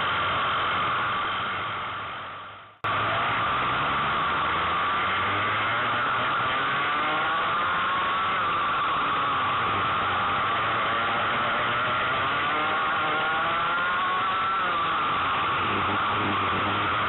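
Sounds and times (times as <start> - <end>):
racing kart engine: 0.0 - 17.0.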